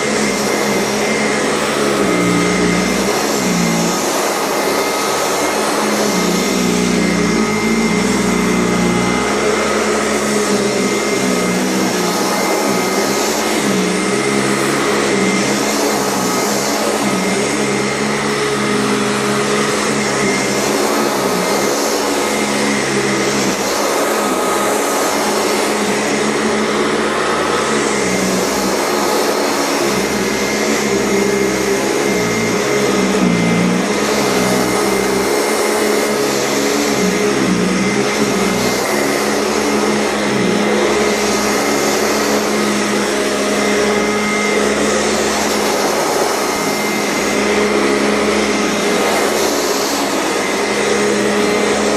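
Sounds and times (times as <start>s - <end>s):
upright vacuum cleaner running: 0.0s - 51.9s.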